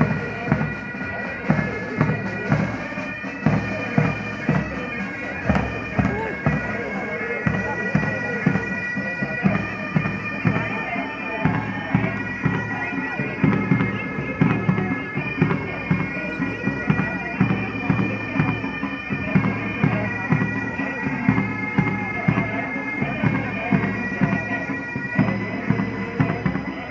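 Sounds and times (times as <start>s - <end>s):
bagpipes with drone: 0.0s - 26.9s
drums beating: 0.0s - 26.9s.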